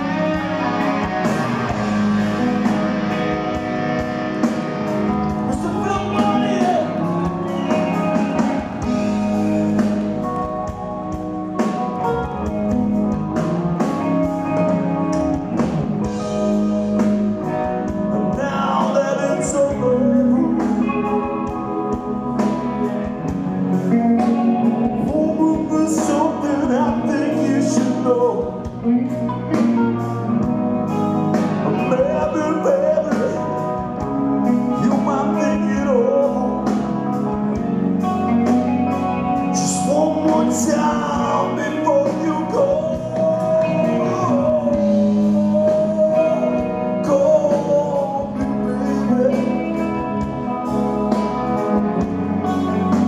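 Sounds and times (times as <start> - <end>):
live rock band playing: 0.0 - 53.0
male lead singer: 0.0 - 53.0.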